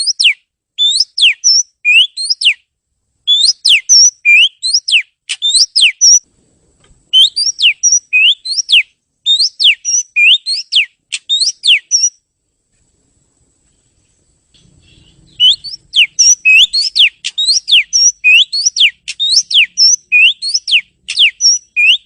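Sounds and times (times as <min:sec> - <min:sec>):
bird singing whistled notes: 0:00.0 - 0:02.7, 0:03.3 - 0:06.2, 0:07.1 - 0:12.2, 0:14.6 - 0:22.0.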